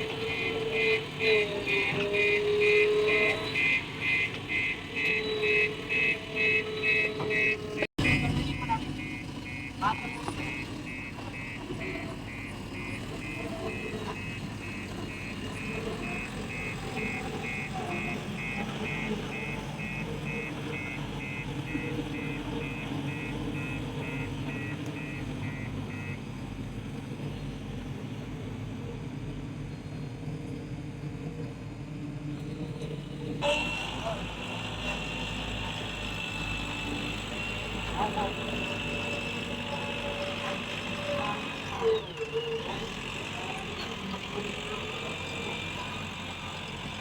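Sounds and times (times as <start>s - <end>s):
reversing alarm beeping: 0.0s - 26.2s, 33.4s - 47.0s
diesel engine running: 0.0s - 47.0s.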